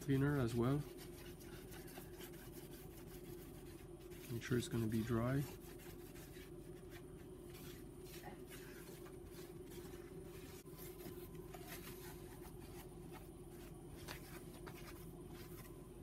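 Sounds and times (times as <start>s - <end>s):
cloth rubbing on metal: 0.0s - 15.8s
steady low hum: 0.0s - 16.0s.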